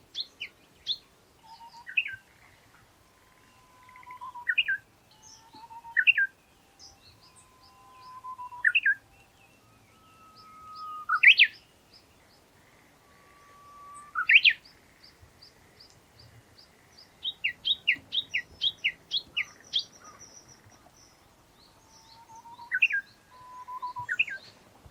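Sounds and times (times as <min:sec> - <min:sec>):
rapid repeated bird call: 0:00.0 - 0:11.7, 0:12.4 - 0:24.6
bush warbler singing: 0:00.0 - 0:24.9
faint high chirps: 0:00.1 - 0:16.0, 0:17.0 - 0:24.6.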